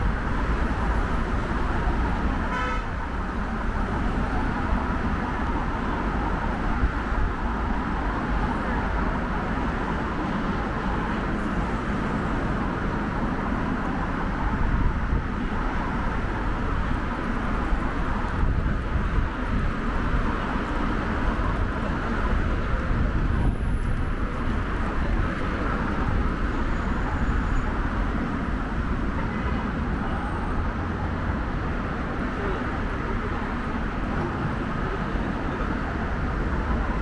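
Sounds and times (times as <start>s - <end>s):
cars passing with low rumble: 0.0s - 37.0s.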